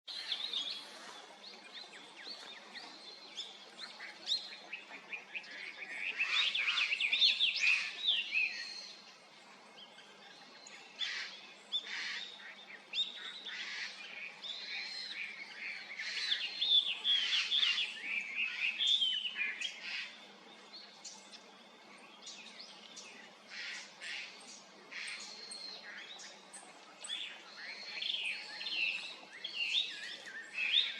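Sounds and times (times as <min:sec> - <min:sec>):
birds chirping: 0:00.1 - 0:30.9.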